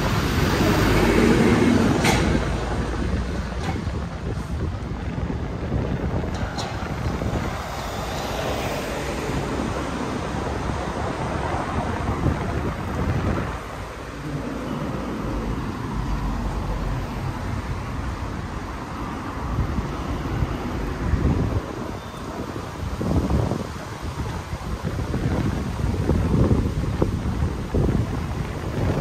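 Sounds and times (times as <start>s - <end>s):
passing street traffic: 0.0s - 29.0s
wind buffeting microphone: 0.0s - 29.0s.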